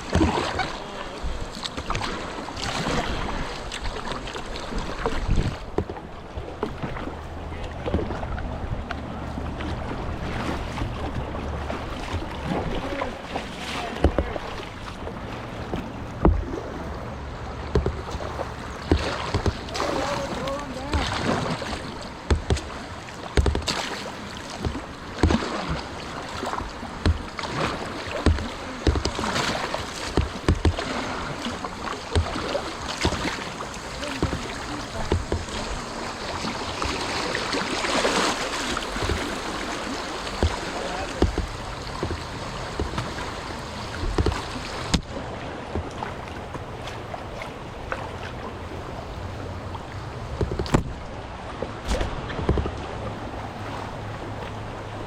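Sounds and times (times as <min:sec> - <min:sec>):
paddle splashing water: 0:00.0 - 0:55.0
rushing whitewater river: 0:00.0 - 0:55.0.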